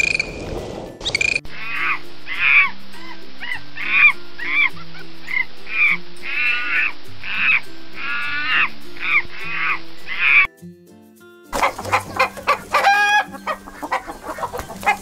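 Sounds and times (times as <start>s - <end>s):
quiet background music: 0.0s - 15.0s
monkey calling: 1.0s - 10.5s, 11.6s - 15.0s.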